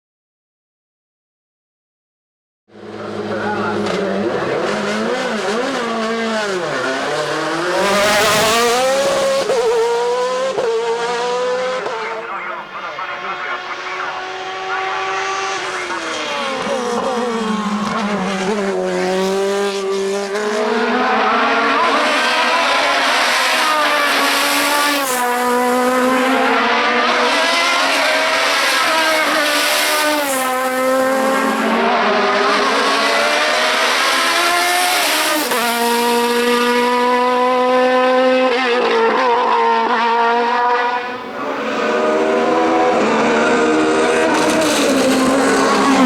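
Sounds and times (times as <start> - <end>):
race car engine at full throttle: 2.7 - 46.0.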